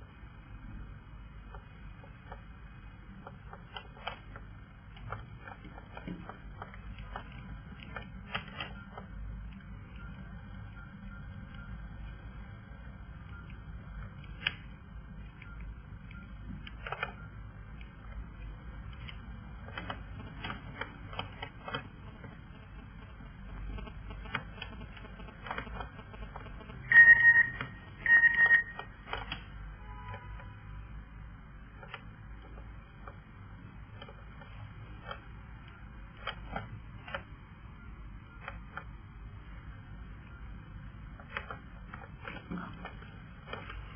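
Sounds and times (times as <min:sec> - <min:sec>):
low hiss and hum: 0:00.0 - 0:43.9.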